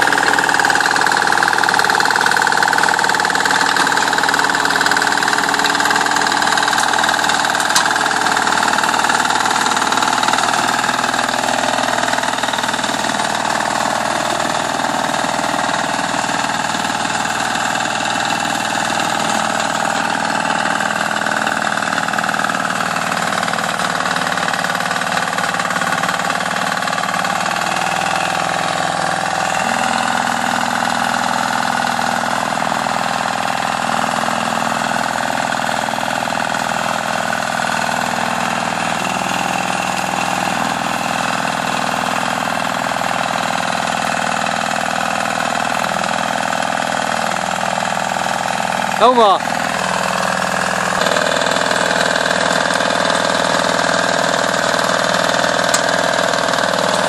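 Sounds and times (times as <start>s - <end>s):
diesel engine running: 0.0s - 57.0s
rotary plough in soil: 0.0s - 57.0s.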